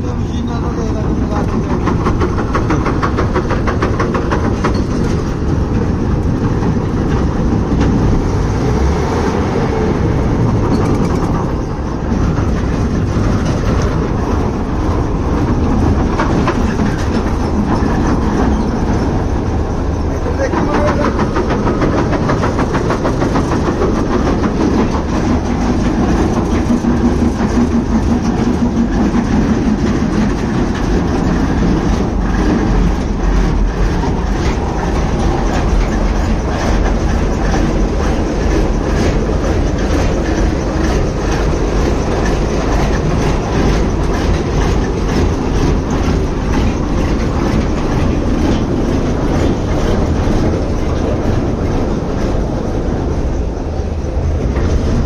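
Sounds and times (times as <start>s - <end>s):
heavy machinery rumbling and clattering: 0.0s - 55.0s.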